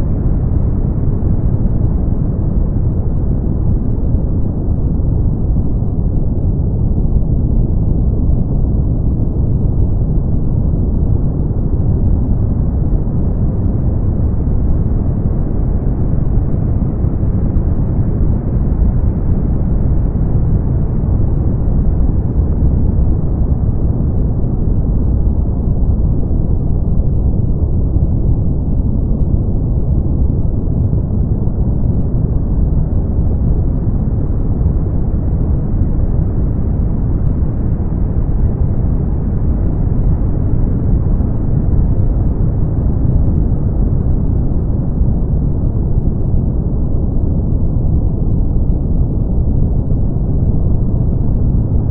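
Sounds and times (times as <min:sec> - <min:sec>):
brown noise: 0:00.0 - 0:51.9.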